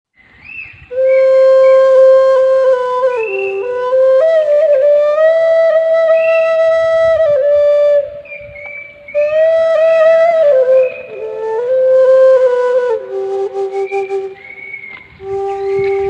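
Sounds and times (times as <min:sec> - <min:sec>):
bamboo flute melody: 0:00.8 - 0:16.0.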